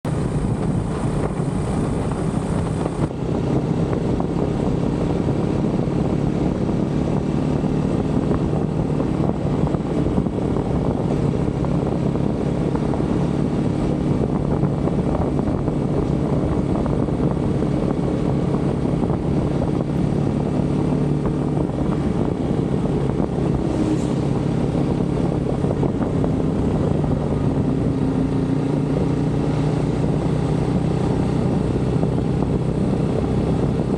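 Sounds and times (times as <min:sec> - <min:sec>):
motorcycle engine cruising: 0:00.0 - 0:33.9
wind noise: 0:00.0 - 0:33.9.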